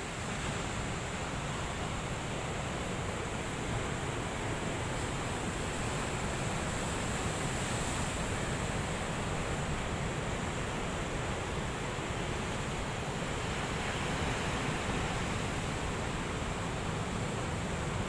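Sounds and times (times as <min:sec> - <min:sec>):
sea surf rushing: 0:00.0 - 0:18.0
wind: 0:00.0 - 0:18.0.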